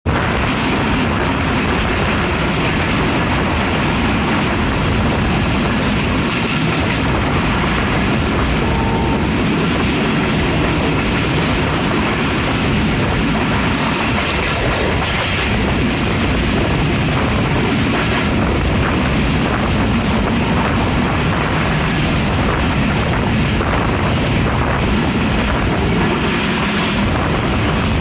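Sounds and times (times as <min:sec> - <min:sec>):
train wheels rumbling on rails: 0:00.1 - 0:28.0.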